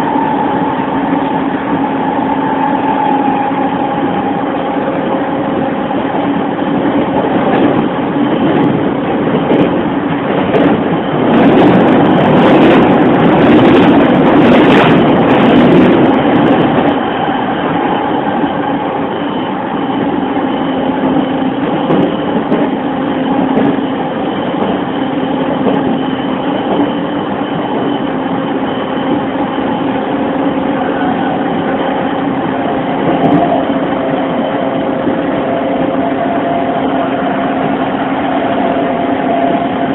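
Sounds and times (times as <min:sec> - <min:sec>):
train motor hum: 0:00.0 - 0:39.9
wheel-on-rail rumble: 0:00.0 - 0:39.9.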